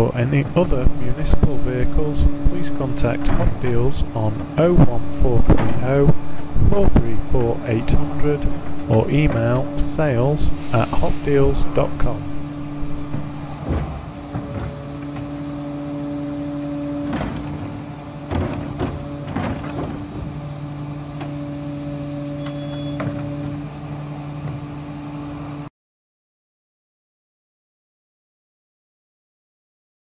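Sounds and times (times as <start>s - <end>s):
hydraulic hum of bin lift: 0.2s - 25.7s.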